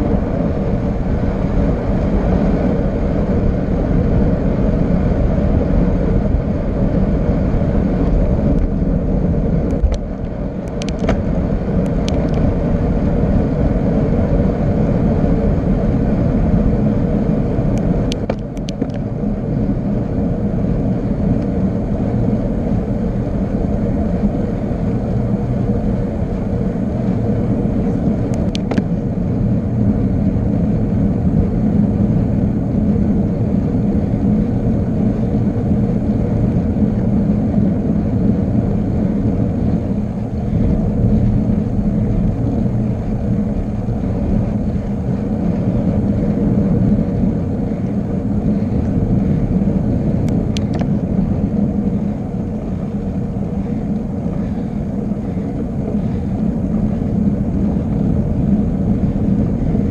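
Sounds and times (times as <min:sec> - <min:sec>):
road noise: 0:00.0 - 0:59.9
wind rush: 0:00.0 - 0:59.9.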